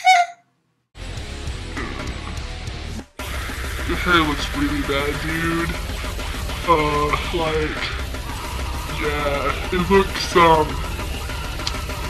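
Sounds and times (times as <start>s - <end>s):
music with guitar: 1.0s - 12.0s.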